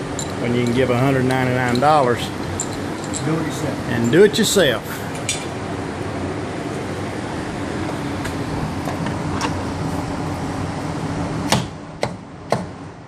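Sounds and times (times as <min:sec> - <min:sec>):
whooshing background noise: 0:00.0 - 0:11.6.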